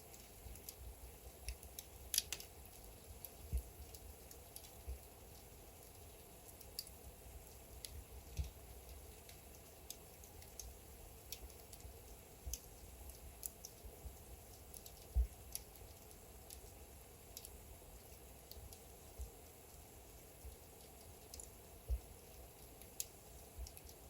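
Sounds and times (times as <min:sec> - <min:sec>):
fire pops: 0:00.0 - 0:24.0
wood logs crackling in fireplace: 0:00.0 - 0:24.0.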